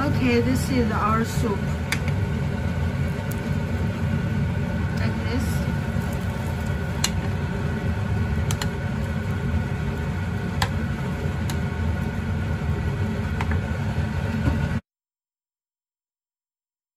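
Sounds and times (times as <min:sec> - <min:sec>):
low kitchen rumble: 0:00.0 - 0:14.8.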